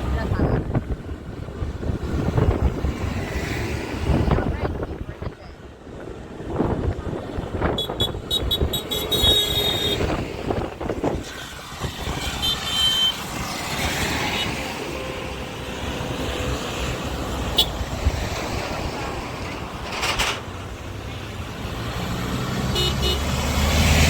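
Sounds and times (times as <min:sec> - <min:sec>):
tractor engines rumbling: 0:00.0 - 0:24.0.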